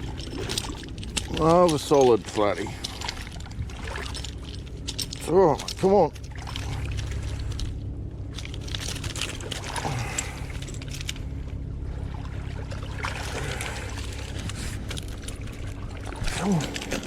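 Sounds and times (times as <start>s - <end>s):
river water sloshing and trickling: 0.0s - 17.0s
steady low rumble: 0.0s - 17.0s.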